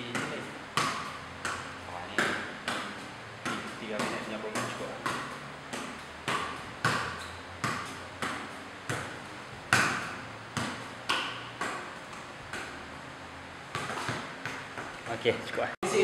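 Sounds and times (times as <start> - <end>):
football thudding on bare foot: 0.0 - 12.8, 13.7 - 15.2.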